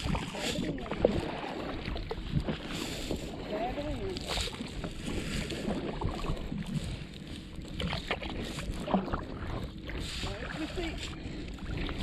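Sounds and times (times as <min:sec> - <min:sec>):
kayak paddle splashing water: 0:00.0 - 0:12.0
wind rumble on microphone: 0:00.0 - 0:12.0.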